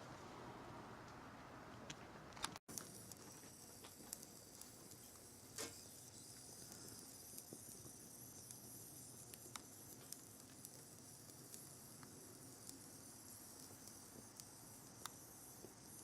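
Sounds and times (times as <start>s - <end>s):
small clicks and crackles: 1.9s - 16.0s
faint steady hiss: 2.7s - 16.0s.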